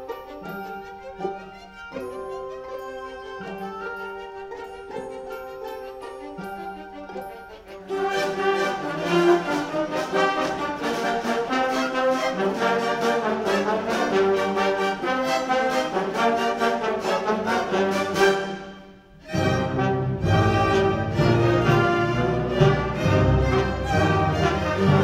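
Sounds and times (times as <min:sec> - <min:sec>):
orchestra with brass chords: 0:00.0 - 0:25.0.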